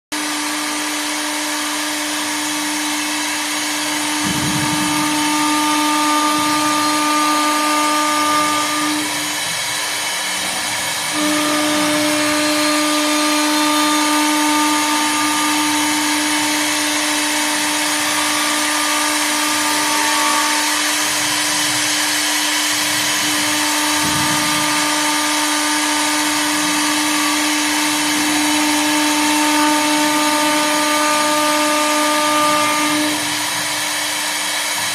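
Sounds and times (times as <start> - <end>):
cutter hissing through wood: 0.1 - 34.9
lathe spindle whine: 0.1 - 34.9.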